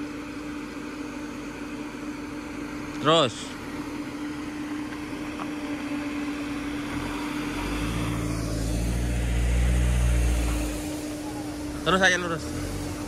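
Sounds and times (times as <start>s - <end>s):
car engine running under load: 0.0s - 13.0s.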